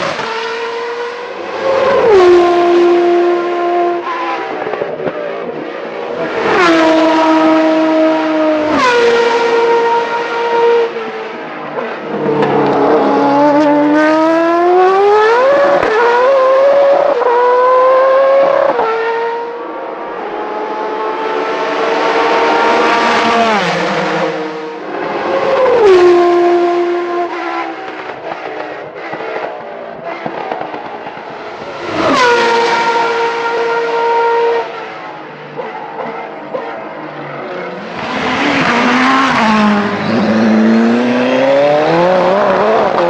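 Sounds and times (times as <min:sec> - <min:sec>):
racing car engines revving: 0:00.0 - 0:43.0.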